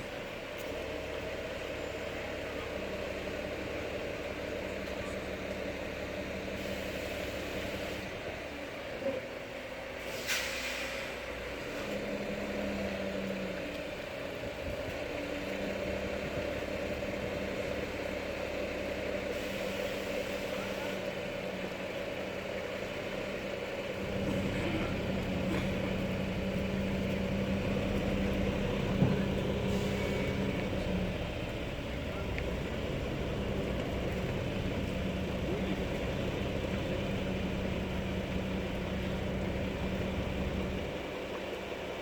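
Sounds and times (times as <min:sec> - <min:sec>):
vehicle humming: 0:00.0 - 0:42.0.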